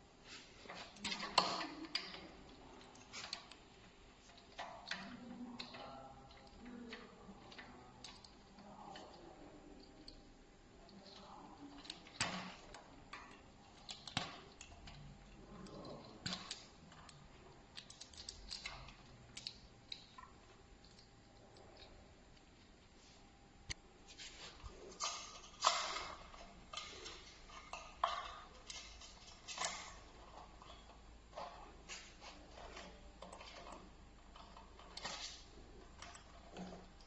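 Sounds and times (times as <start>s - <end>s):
tools and small parts clicking: 0.7s - 22.6s, 24.6s - 37.0s.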